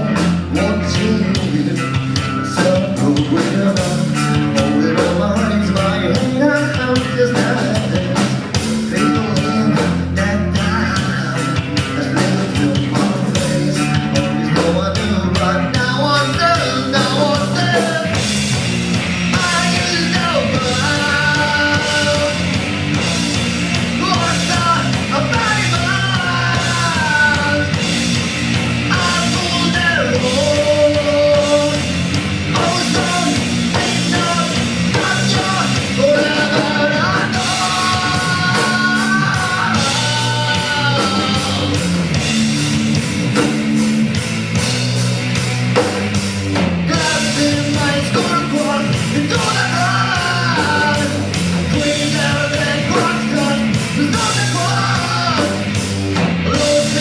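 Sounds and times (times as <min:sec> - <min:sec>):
person singing: 0:00.0 - 0:18.2, 0:19.3 - 0:22.6, 0:24.0 - 0:27.9, 0:28.9 - 0:42.2, 0:46.9 - 0:55.8, 0:56.4 - 0:57.0
drums: 0:00.0 - 0:57.0
electric guitar: 0:00.0 - 0:57.0.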